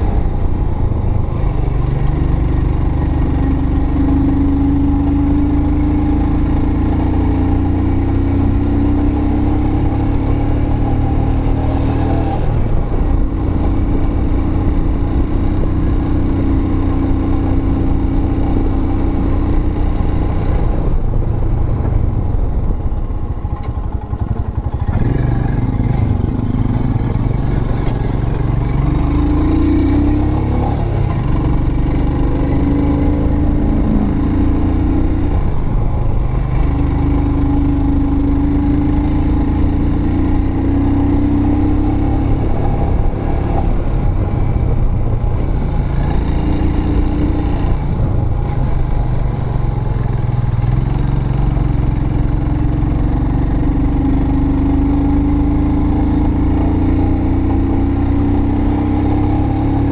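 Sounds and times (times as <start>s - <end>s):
motorcycle engine riding: 0.0s - 59.9s.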